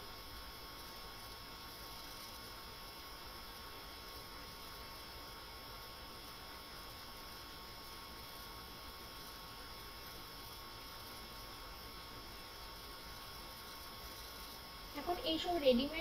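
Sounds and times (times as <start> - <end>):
faint hiss and hum: 0.0 - 16.0
thin steady tones: 0.0 - 16.0.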